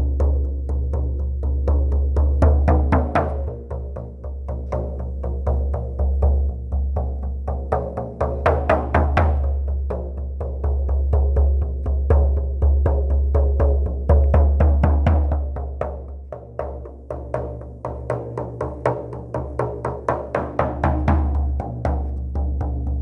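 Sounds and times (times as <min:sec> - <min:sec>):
frame drum beating: 0:00.0 - 0:23.0.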